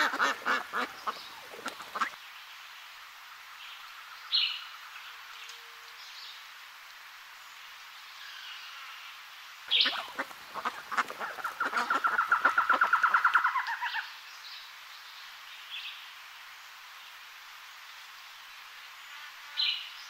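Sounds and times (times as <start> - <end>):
faint background birdsong: 0.0 - 20.0.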